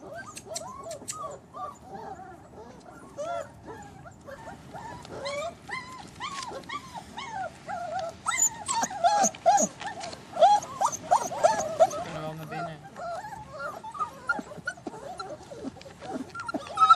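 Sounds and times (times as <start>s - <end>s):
puppies whimpering and yipping: 0.0s - 16.9s.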